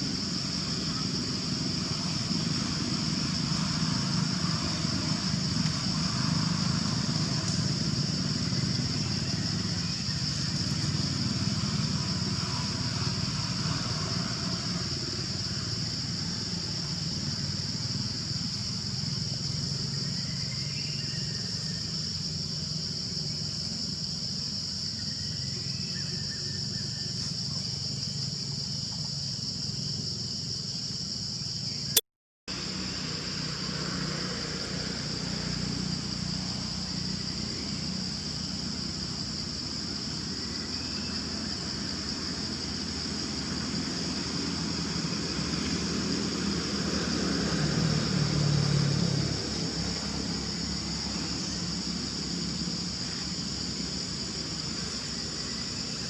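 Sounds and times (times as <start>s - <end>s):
traffic rumble: 0.0s - 31.2s, 31.9s - 56.0s
high-pitched insect drone: 0.0s - 56.0s.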